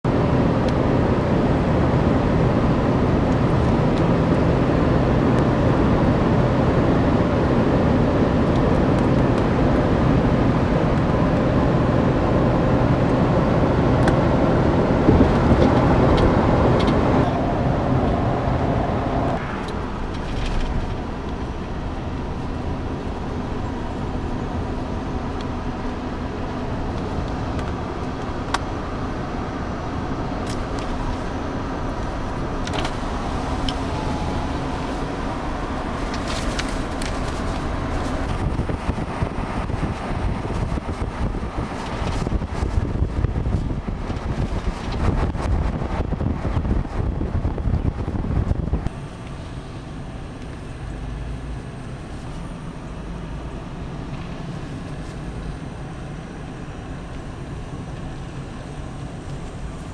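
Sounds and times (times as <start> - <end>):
road and engine noise inside car: 0.0 - 59.9.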